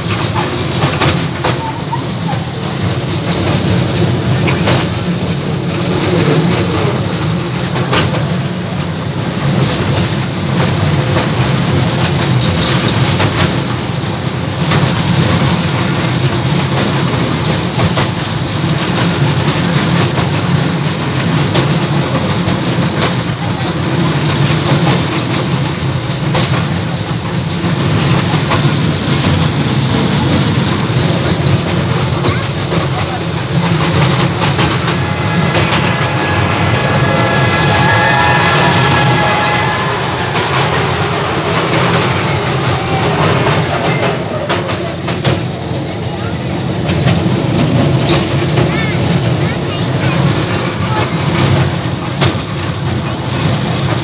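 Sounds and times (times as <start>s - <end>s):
small train running drone: 0.0s - 54.0s.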